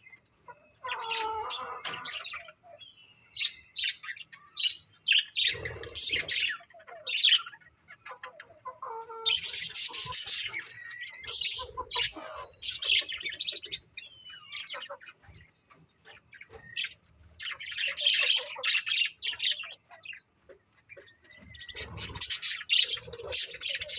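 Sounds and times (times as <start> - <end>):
budgerigars chirping and squawking: 0.0 - 23.9.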